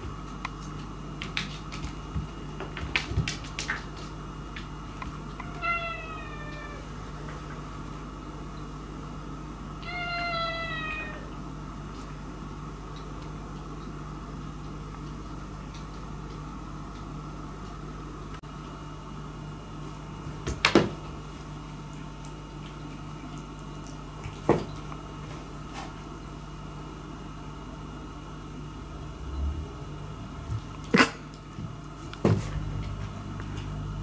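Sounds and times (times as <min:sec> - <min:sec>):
steady room hum: 0:00.0 - 0:34.0.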